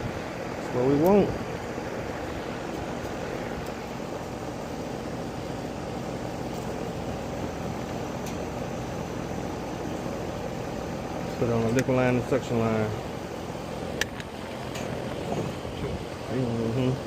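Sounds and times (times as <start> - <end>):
air conditioner unit running: 0.0 - 17.0.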